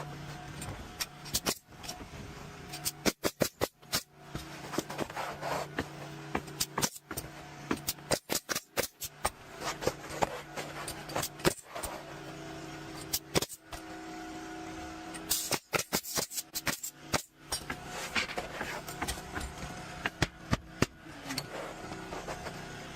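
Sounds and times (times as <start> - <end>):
steady motor drone: 0.0 - 22.9.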